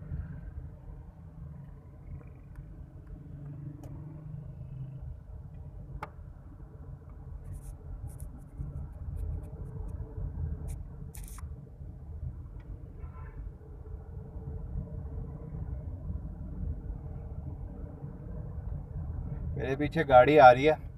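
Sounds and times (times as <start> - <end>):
car engine and tyres rumbling: 0.0 - 20.9.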